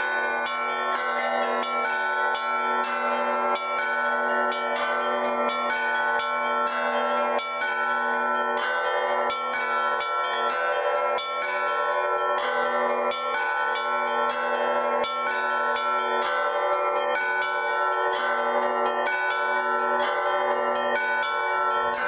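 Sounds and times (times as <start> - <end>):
church bells pealing: 0.0 - 22.0
deep hum of low bells: 0.0 - 22.0.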